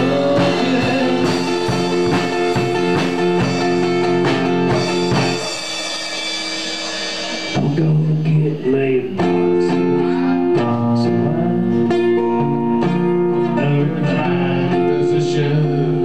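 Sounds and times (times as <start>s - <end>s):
drum kit: 0.0s - 14.9s
electric guitar chords: 0.0s - 16.0s.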